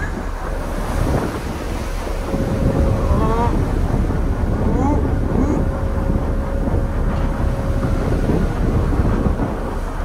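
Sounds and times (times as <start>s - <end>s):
rough sea water breaking: 0.0s - 10.0s
wind rumbling on microphone: 0.0s - 10.0s.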